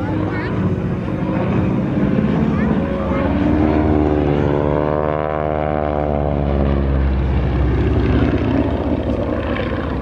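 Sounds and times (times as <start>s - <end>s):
biplane engine droning: 0.0s - 10.0s.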